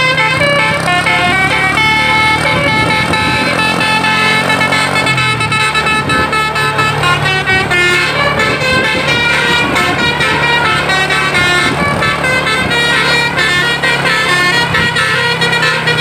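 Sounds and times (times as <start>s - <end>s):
bus engine running: 0.0s - 16.0s
multi-tone air horn tune: 0.0s - 16.0s.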